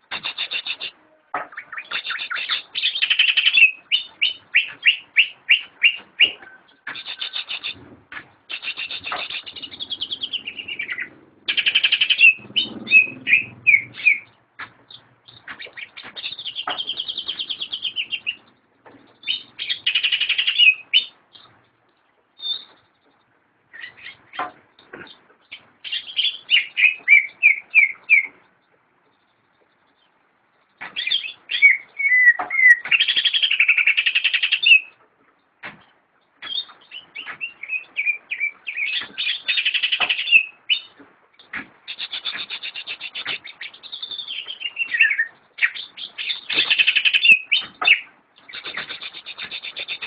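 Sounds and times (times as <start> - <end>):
bird chirping and trilling: 0.0 - 7.9, 8.5 - 21.6, 22.4 - 23.0, 23.7 - 28.6, 29.2 - 35.0, 36.4 - 50.0.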